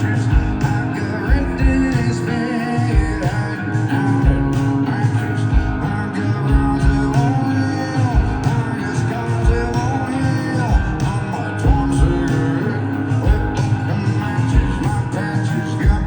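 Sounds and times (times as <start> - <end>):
country-rock band playing: 0.0 - 16.0
sung vocals: 0.0 - 16.0.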